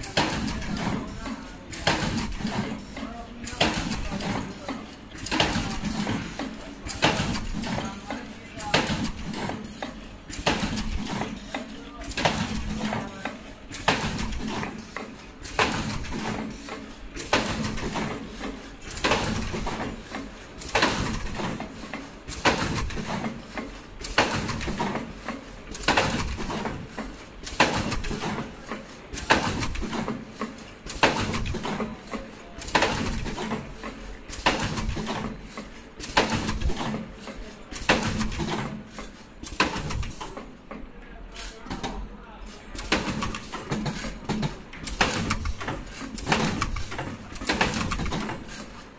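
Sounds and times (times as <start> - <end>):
machine clacking: 0.0 - 42.0, 42.7 - 48.9.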